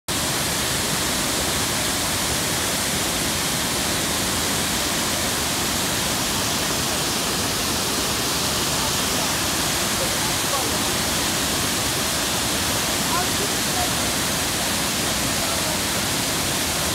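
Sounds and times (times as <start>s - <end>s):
waterfall rushing: 0.1s - 16.9s.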